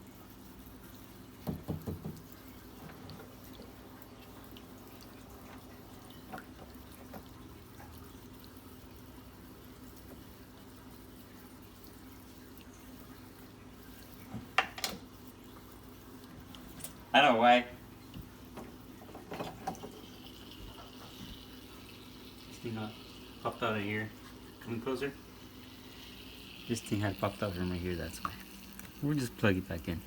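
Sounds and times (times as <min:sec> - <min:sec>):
fountain water trickling: 0:00.0 - 0:30.0
pump humming: 0:00.0 - 0:30.0.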